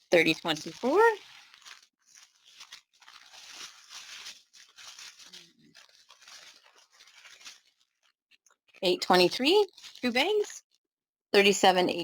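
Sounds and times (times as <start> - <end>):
plastic bags crinkling: 0.0 - 10.6.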